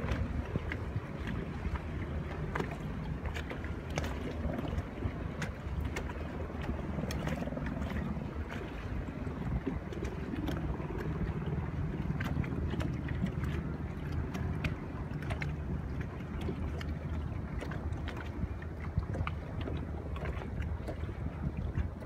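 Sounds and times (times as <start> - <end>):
water lapping against boat hull: 0.0 - 22.0
wind on microphone: 0.0 - 22.0.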